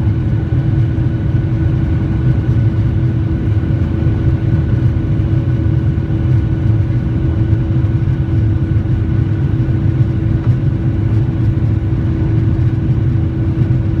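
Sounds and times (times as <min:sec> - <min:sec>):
jet engines droning: 0:00.0 - 0:14.0.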